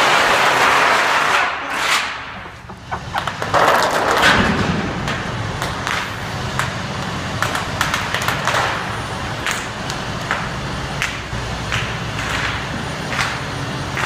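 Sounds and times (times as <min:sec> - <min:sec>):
truck diesel engine rumble: 0:01.7 - 0:14.0.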